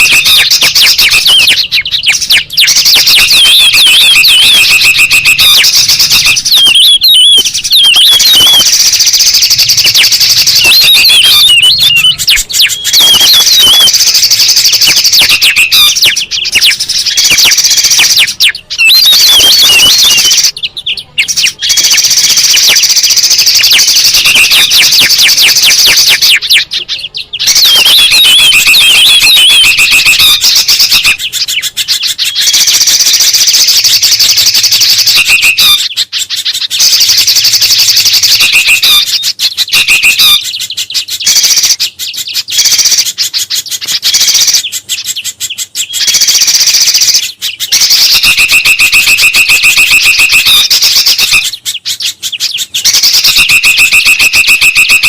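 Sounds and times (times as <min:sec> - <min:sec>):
small songbirds chattering: 0:00.0 - 0:55.0.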